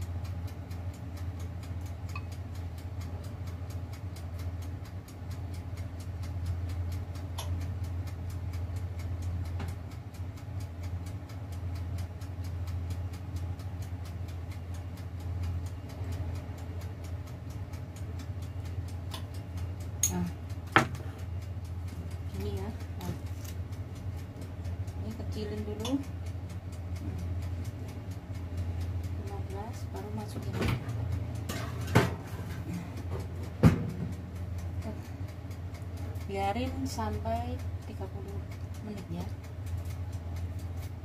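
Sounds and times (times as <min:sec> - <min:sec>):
low electrical hum: 0:00.0 - 0:41.0
mechanical timer ticking: 0:00.0 - 0:41.0.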